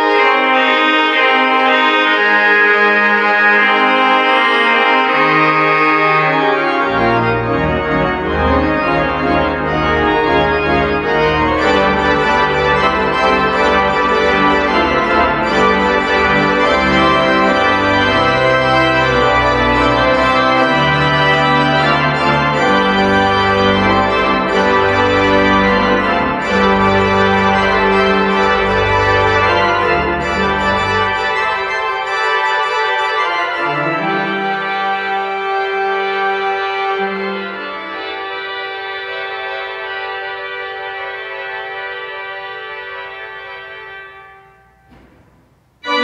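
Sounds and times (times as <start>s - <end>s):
church organ chords: 0.0s - 46.0s.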